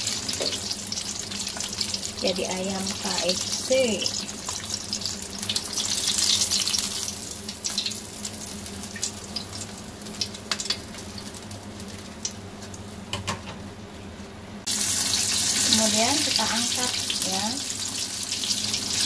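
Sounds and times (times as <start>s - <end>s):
chicken frying in hot oil: 0.0s - 13.6s, 14.6s - 19.0s.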